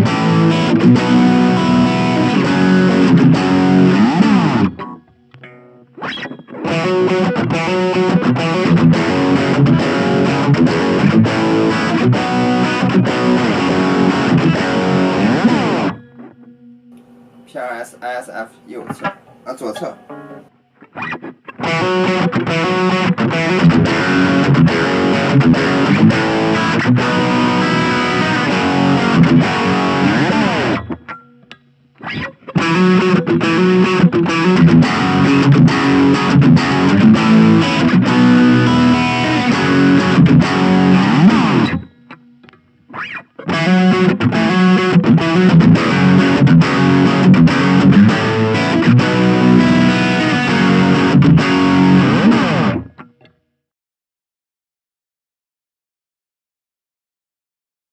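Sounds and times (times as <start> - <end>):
distorted electric guitar riff: 0.0 - 53.3.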